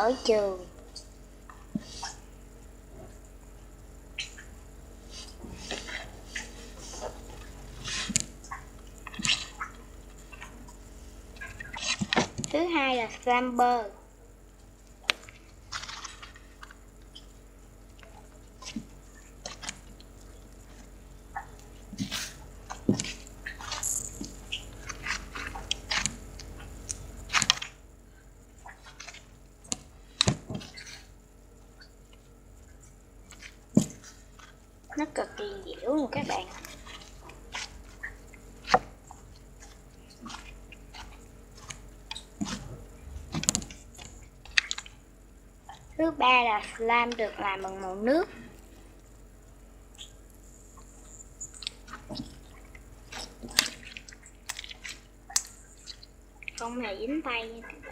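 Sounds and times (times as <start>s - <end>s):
slime squelching: 0.0s - 3.3s, 4.1s - 57.9s.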